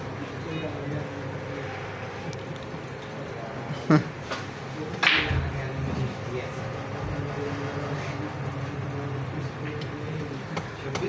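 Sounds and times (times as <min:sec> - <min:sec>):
murmur of men's voices: 0:00.0 - 0:11.0.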